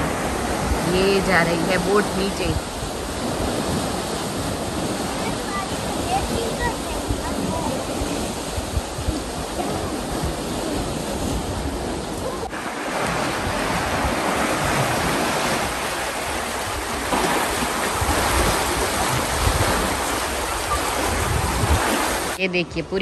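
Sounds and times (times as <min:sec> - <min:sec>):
water rushing through lock: 0:00.0 - 0:23.0.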